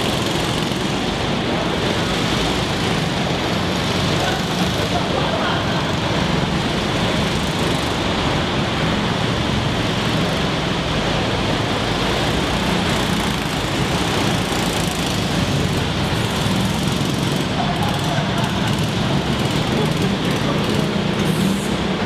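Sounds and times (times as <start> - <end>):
go-kart engines running: 0.0 - 22.0.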